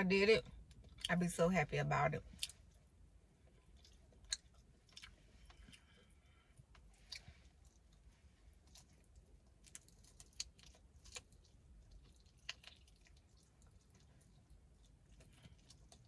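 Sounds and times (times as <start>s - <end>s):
faint chewing and mouth clicks: 0.4s - 1.2s, 2.2s - 16.0s.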